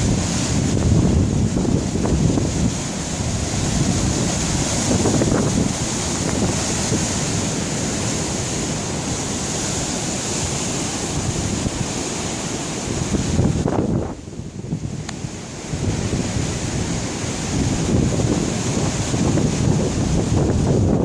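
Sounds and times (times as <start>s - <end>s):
heavy surf breaking: 0.0s - 21.0s
strong wind gusting: 0.0s - 21.0s.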